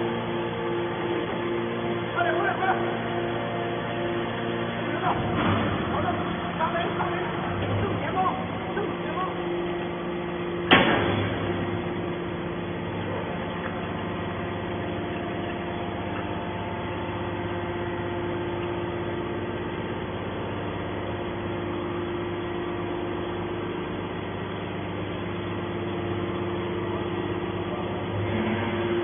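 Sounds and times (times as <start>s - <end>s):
hydraulic baler humming: 0.0s - 29.0s.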